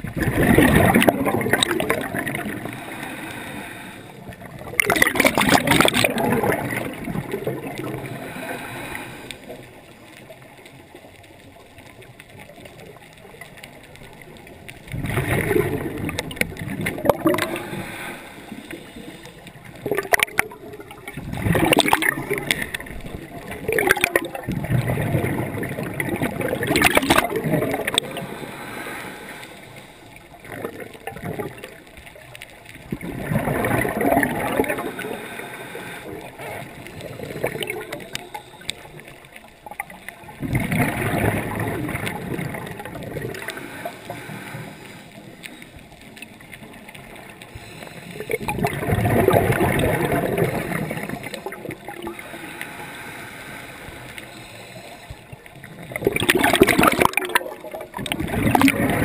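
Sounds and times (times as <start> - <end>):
underwater bubbles gurgling: 0.0 - 59.0.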